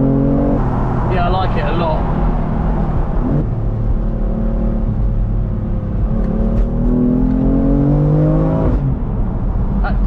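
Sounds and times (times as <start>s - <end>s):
car engine accelerating: 0.0s - 10.0s
road noise: 0.0s - 10.0s.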